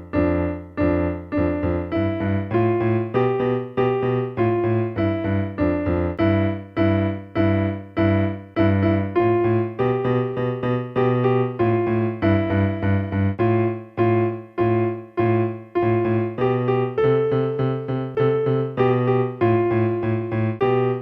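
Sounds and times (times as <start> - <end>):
electronic keyboard piano playing: 0.0 - 21.0.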